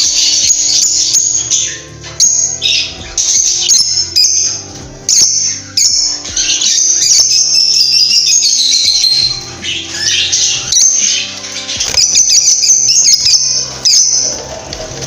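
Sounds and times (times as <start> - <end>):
background music with low notes: 0.0 - 15.0
lovebirds squawking and chirping: 0.0 - 15.0.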